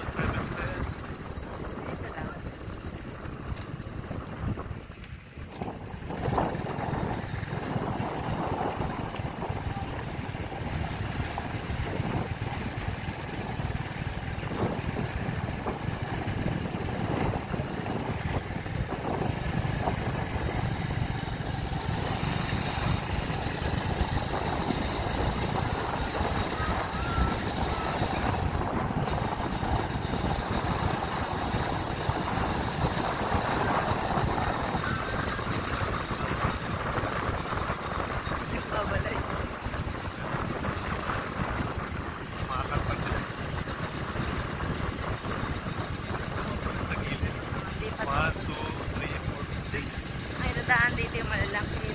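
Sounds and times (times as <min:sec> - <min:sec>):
motorcycle engine drone: 0:00.0 - 0:51.9
wind buffeting microphone: 0:00.0 - 0:51.9.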